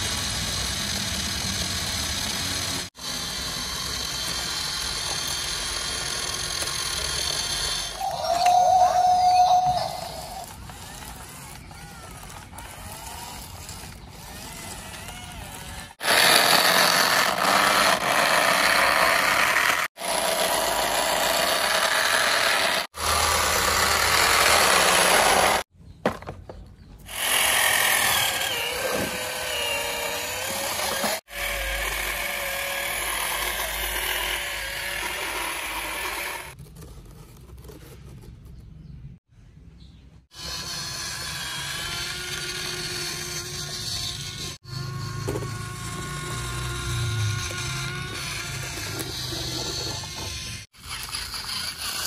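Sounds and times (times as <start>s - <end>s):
small electric motors whirring: 0.0s - 25.7s, 27.0s - 38.0s, 40.2s - 52.0s.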